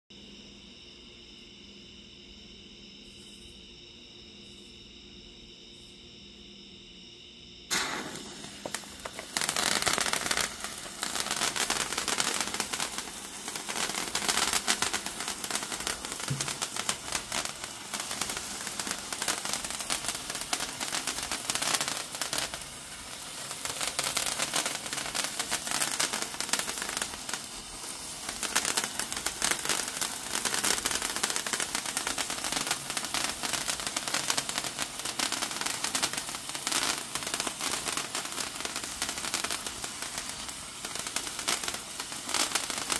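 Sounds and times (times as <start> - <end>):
sparkler hissing and crackling: 7.7 - 42.9.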